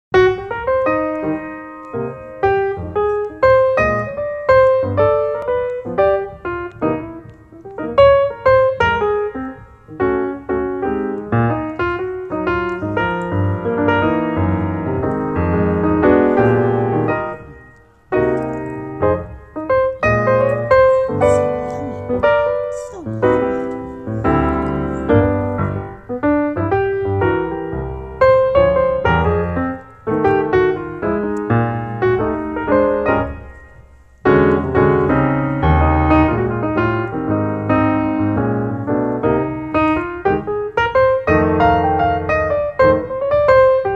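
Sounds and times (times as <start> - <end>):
lively piano music: 0.1 - 43.9.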